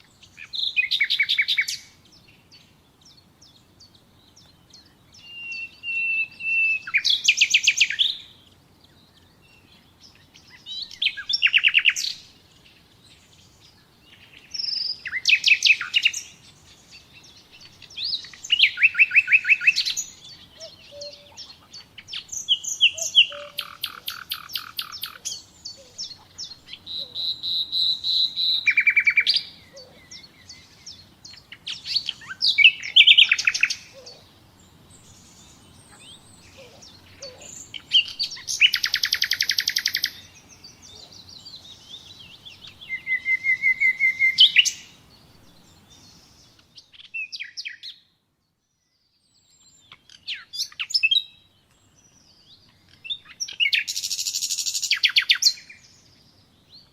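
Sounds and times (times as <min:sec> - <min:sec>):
nightingale singing: 0:00.0 - 0:56.9.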